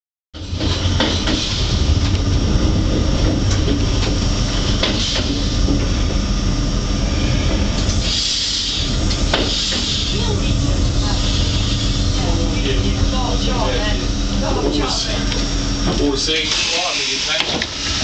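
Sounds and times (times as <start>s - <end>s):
train wheels rumbling: 0.4s - 18.0s.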